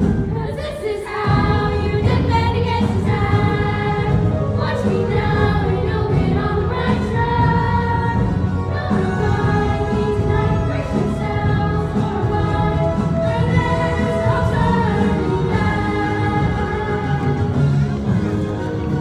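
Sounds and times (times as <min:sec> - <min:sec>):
voices singing long notes: 0:00.2 - 0:19.0
steady bass: 0:01.3 - 0:19.0.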